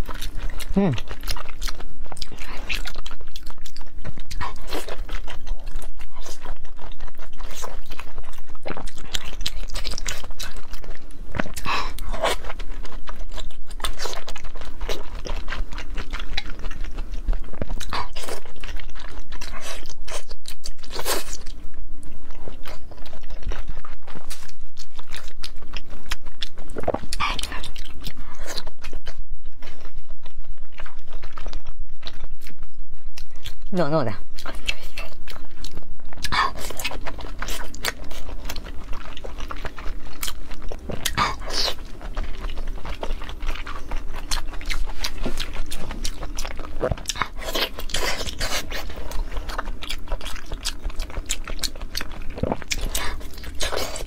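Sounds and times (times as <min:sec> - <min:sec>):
wet biting and chewing: 0:00.0 - 0:21.7, 0:22.3 - 0:54.0.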